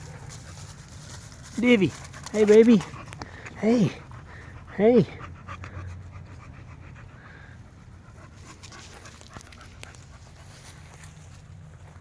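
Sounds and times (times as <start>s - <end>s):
dog panting: 0.0s - 11.1s.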